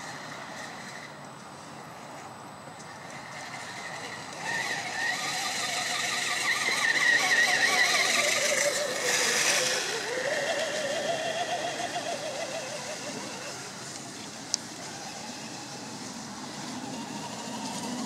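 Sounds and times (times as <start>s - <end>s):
toy truck electric motor whining: 2.9s - 18.0s.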